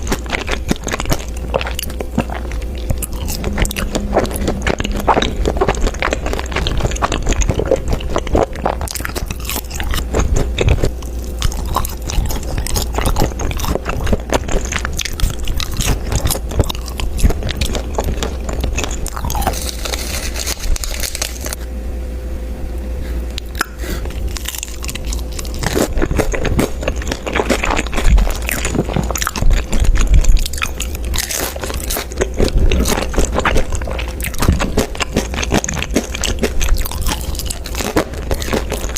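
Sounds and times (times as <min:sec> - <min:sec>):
crunchy food being chewed: 0:00.0 - 0:21.7, 0:23.3 - 0:38.9
low hum: 0:00.0 - 0:38.9.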